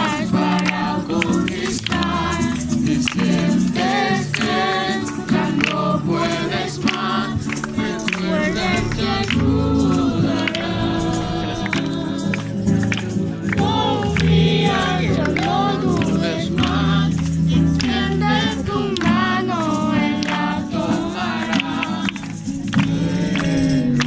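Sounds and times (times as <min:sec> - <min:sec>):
backing music: 0:00.0 - 0:24.0
group of voices singing: 0:00.0 - 0:24.0.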